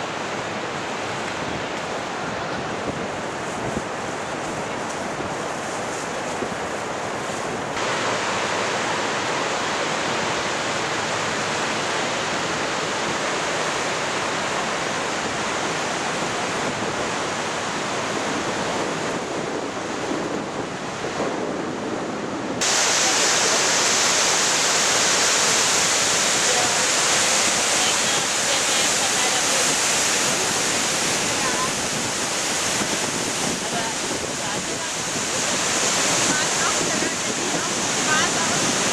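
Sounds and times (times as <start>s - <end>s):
waterfall roaring: 0.0s - 38.9s
wind noise on microphone: 0.0s - 38.9s.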